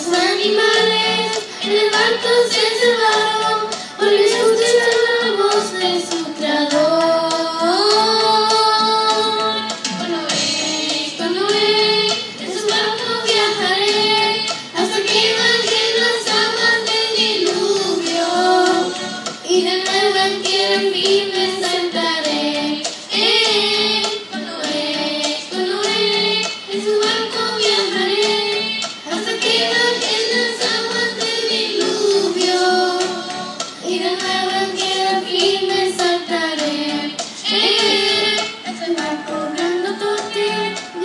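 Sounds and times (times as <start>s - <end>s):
girls singing into microphones: 0.0s - 41.0s.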